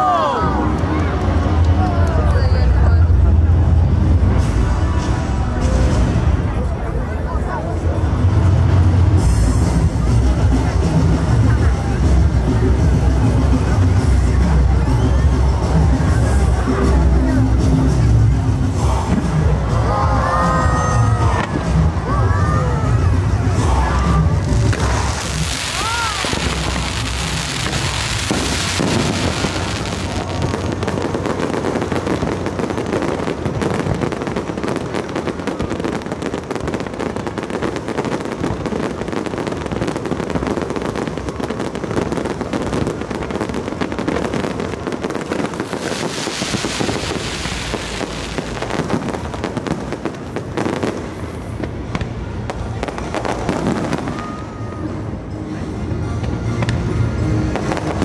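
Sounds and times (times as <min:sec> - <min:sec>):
fireworks crackling and popping: 0:00.0 - 0:55.2, 0:56.1 - 0:58.0
fireworks hissing crackle: 0:00.0 - 0:55.2, 0:56.2 - 0:58.0.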